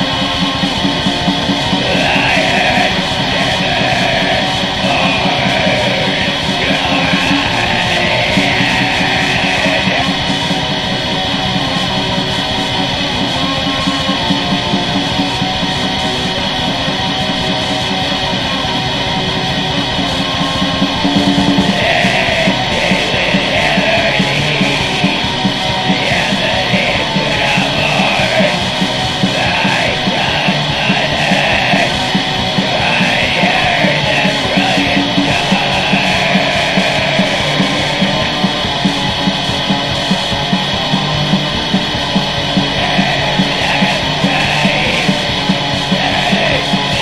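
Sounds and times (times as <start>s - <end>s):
distorted electric guitars: 0.0s - 47.0s
fast drumming: 0.0s - 47.0s
screamed vocals: 0.0s - 47.0s.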